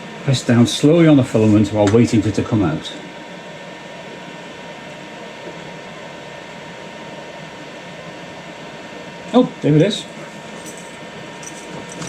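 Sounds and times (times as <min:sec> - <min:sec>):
cooling fans whirring: 0:00.0 - 0:12.0
faint constant whine: 0:00.0 - 0:12.0.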